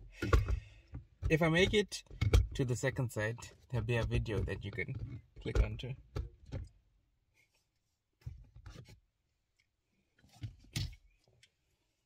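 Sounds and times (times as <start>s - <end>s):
rustling and knocking handling noises: 0.1s - 11.6s.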